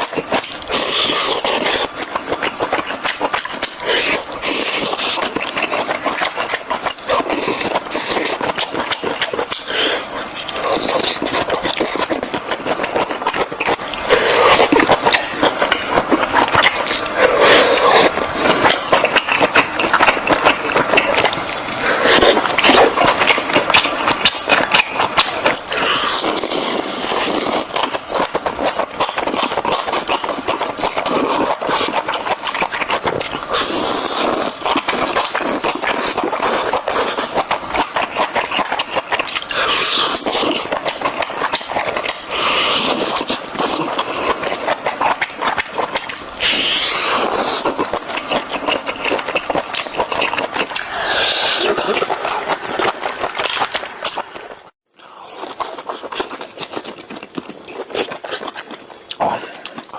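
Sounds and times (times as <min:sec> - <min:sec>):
wet chewing and slurping: 0:00.0 - 0:59.9.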